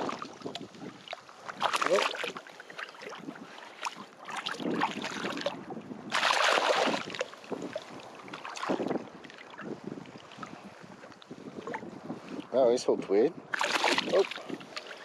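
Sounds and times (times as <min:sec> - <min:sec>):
water splashing: 0:00.0 - 0:12.5, 0:13.5 - 0:15.0.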